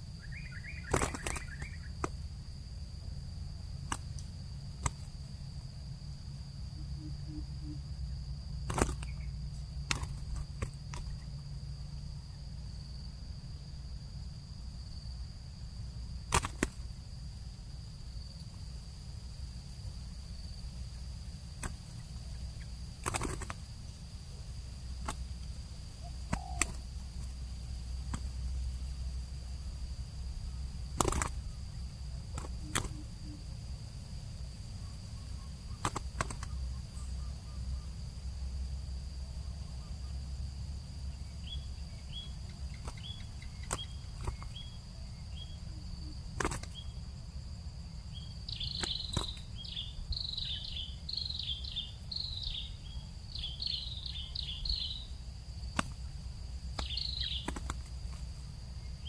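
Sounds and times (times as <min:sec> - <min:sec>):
high-pitched insect drone: 0:00.0 - 0:16.2, 0:23.6 - 0:55.7.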